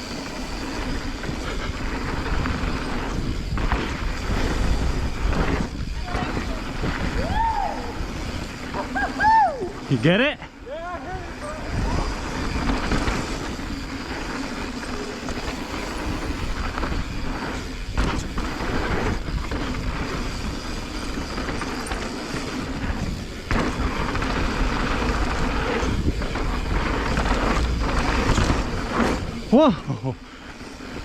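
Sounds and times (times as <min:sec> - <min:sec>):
bike tyres on dirt trail: 0:00.0 - 0:31.0.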